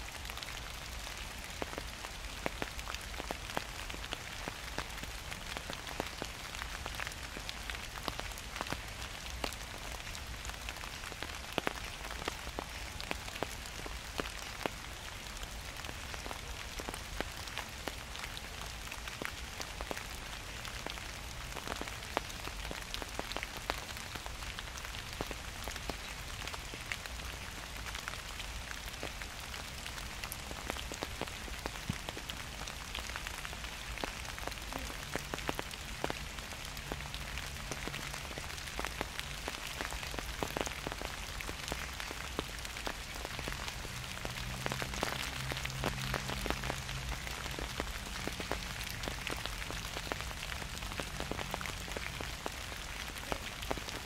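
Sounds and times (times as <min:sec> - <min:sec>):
gentle rain with ticking drops: 0:00.0 - 0:54.0.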